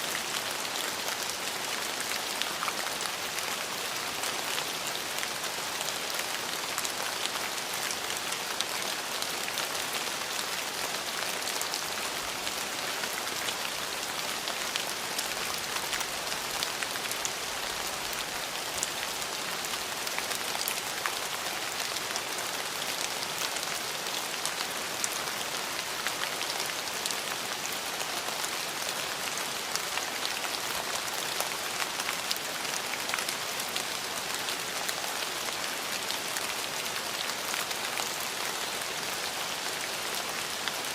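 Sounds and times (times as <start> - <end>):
rain on hard surfaces: 0.0 - 40.9.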